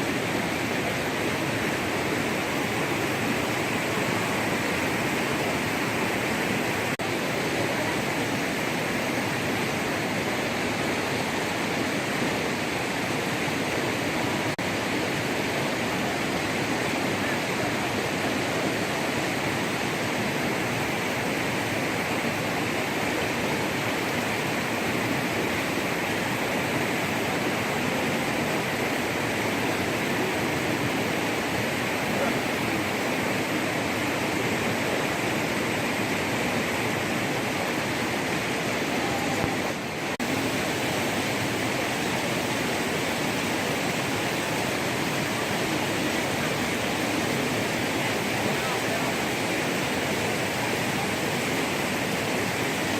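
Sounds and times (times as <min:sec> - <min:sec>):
water rushing: 0:00.0 - 0:52.9.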